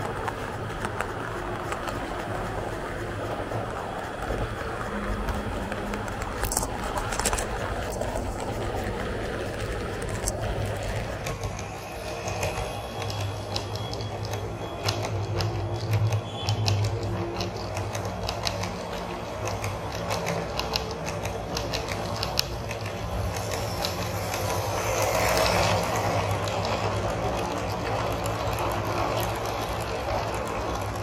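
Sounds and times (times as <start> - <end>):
model train motor hum: 0.0 - 31.0
wheels clicking on rails: 0.0 - 31.0.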